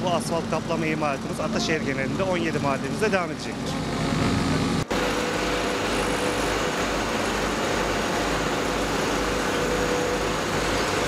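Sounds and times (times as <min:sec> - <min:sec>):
paver diesel engine running: 0:00.0 - 0:11.0.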